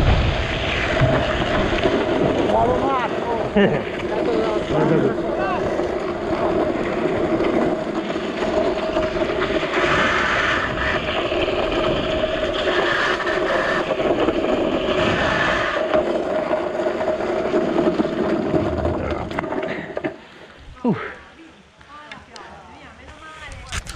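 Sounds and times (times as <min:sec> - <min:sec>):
wheels humming on wet asphalt: 0:00.0 - 0:21.1
wheels hissing: 0:00.0 - 0:22.1.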